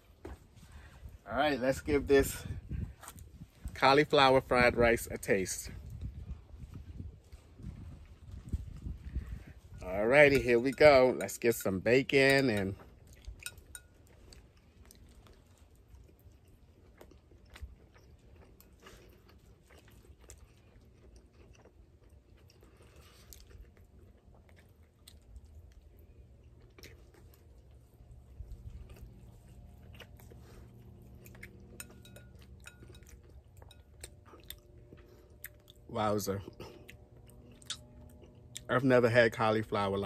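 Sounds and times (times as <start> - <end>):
person chewing food: 5.7 - 38.7.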